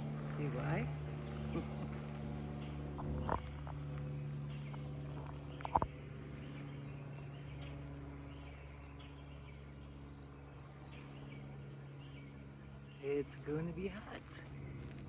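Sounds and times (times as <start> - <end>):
distant aircraft engine drone: 0.0 - 15.0.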